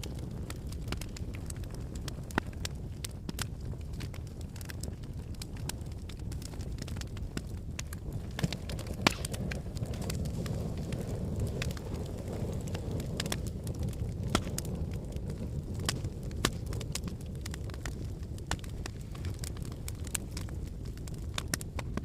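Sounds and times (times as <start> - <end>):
fire crackles and pops: 0.0 - 22.0
fire low rumble: 0.0 - 22.0.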